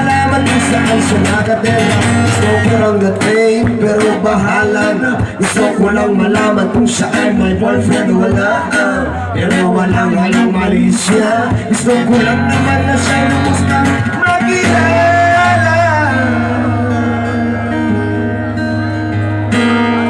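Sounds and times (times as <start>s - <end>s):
person singing: 0.0s - 18.8s
strummed acoustic guitar: 0.0s - 20.0s.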